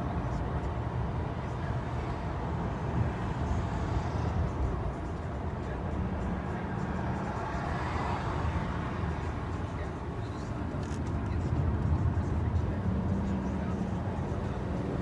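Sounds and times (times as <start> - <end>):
car cabin road and engine noise: 0.0 - 15.0.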